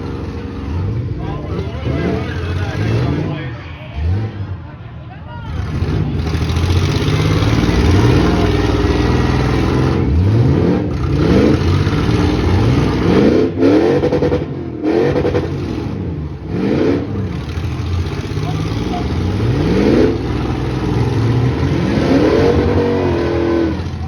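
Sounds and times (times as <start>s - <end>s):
racing engines revving: 0.0s - 24.0s.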